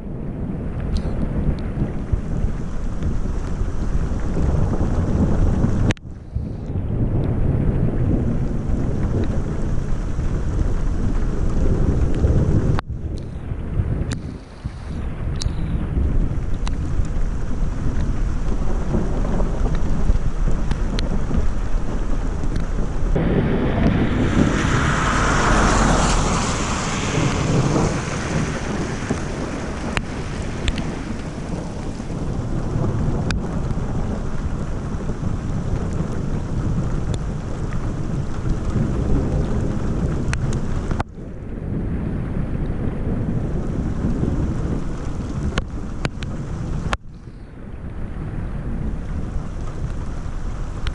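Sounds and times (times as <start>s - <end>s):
steady rain: 0.0s - 50.9s
thunder rolling: 0.0s - 50.9s
wind: 0.0s - 50.9s.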